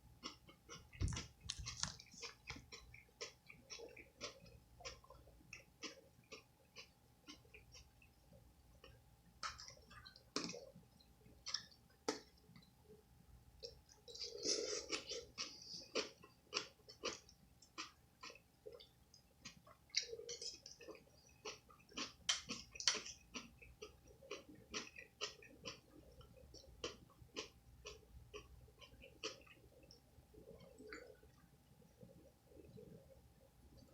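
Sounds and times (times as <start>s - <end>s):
person chewing food: 0.1s - 12.7s, 13.6s - 33.9s.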